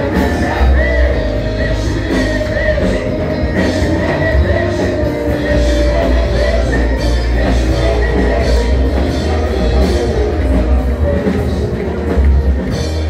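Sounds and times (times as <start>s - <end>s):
drum kit: 0.0s - 13.0s
guitar: 0.0s - 13.0s
heavy bass: 0.0s - 13.0s
live worship music: 0.0s - 13.0s.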